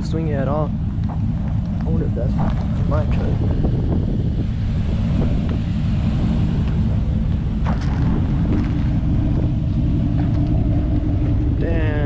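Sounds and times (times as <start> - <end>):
vehicle engine hum: 0.0 - 12.0
wind buffeting microphone: 0.0 - 12.0.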